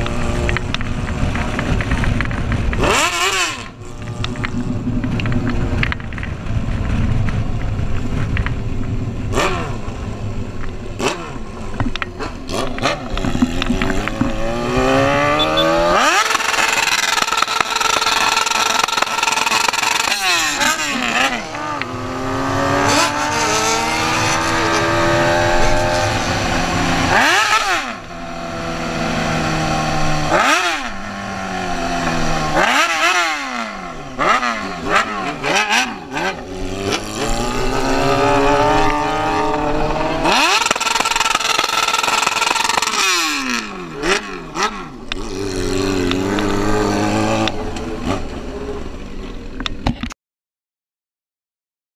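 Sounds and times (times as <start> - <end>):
motorcycle engines revving: 0.0 - 50.1.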